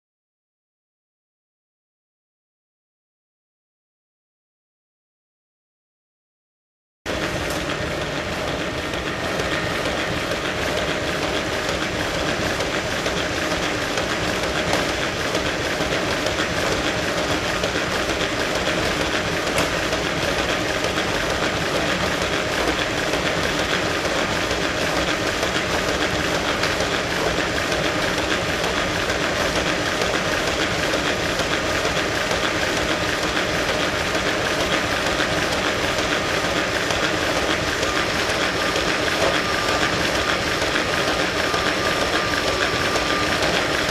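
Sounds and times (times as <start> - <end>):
treadmill belt rushing: 7.1 - 43.9.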